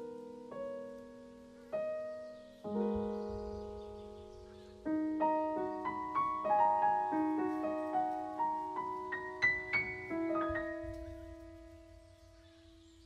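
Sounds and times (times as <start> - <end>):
gentle solo piano melody: 0.0 - 13.0.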